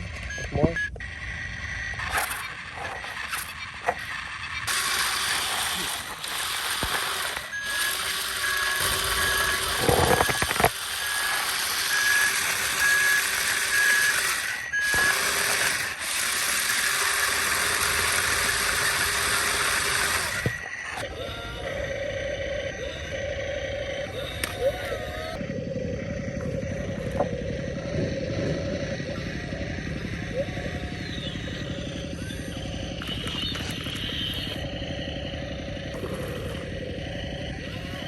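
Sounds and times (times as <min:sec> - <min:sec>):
reversing alarm beeps: 0:00.0 - 0:38.0.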